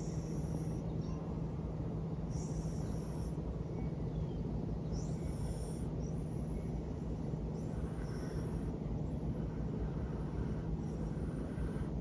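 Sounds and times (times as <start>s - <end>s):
songbirds singing: 0.0s - 12.0s
steady low hum: 0.0s - 12.0s.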